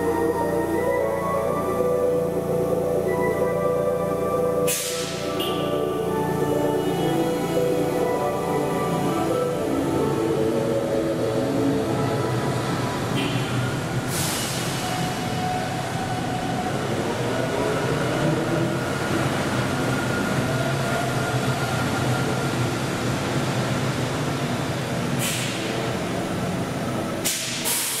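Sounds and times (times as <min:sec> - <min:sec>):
electric bus hum with whine: 0:00.0 - 0:28.0.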